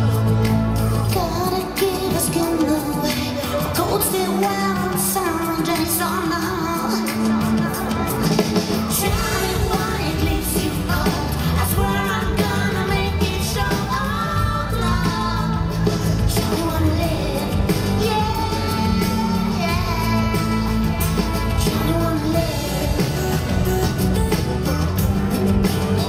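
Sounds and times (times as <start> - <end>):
band with bass and drums: 0.0 - 26.0
woman singing: 0.8 - 24.4.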